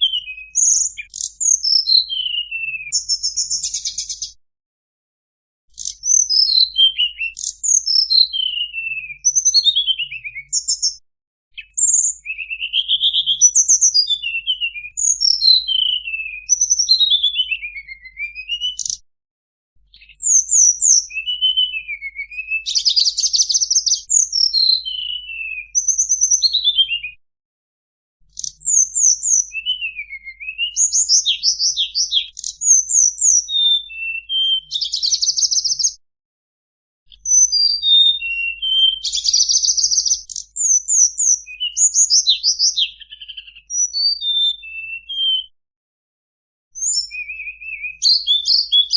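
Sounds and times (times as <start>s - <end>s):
bird song high whistled notes: 0.0s - 4.4s, 5.7s - 11.0s, 11.6s - 19.0s, 19.9s - 27.2s, 28.3s - 36.0s, 37.1s - 45.6s, 46.8s - 48.9s.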